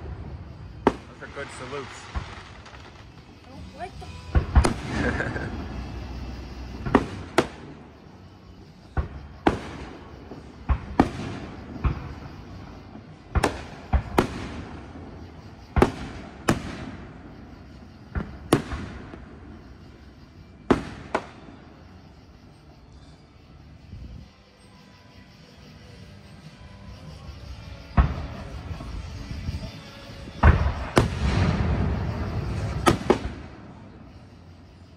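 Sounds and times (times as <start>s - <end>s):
firework shells bursting: 0.0s - 8.2s, 8.8s - 22.6s, 27.8s - 34.2s.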